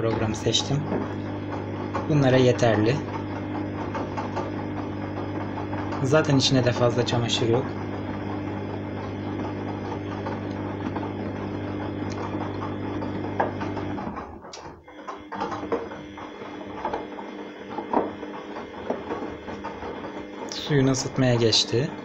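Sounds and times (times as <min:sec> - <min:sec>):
machine knocks: 0:00.0 - 0:21.7
washing machine motor hum: 0:00.0 - 0:22.0
water and laundry sloshing: 0:00.0 - 0:22.0.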